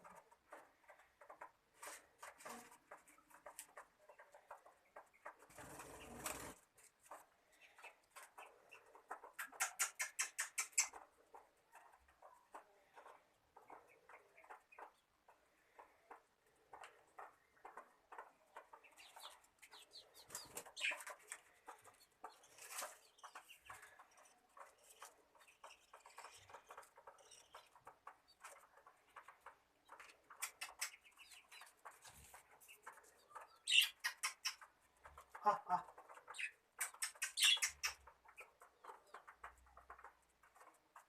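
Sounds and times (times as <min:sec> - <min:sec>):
pet birds chirping: 0:02.4 - 0:41.0.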